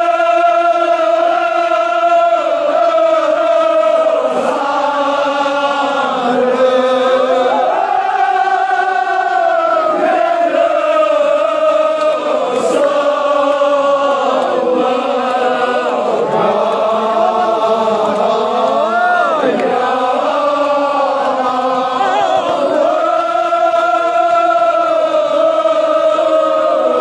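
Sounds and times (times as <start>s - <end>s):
crowd of men chanting: 0.0s - 27.0s.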